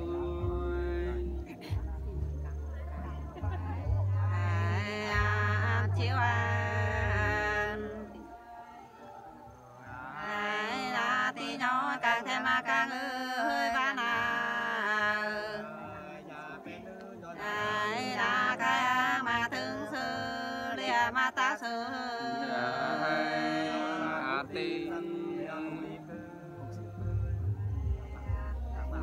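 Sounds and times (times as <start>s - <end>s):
two women singing unaccompanied: 0.0s - 29.0s.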